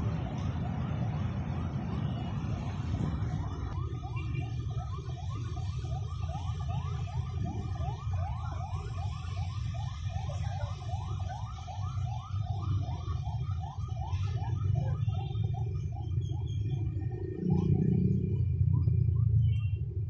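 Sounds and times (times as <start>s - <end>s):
siren yelping: 0.0s - 20.0s.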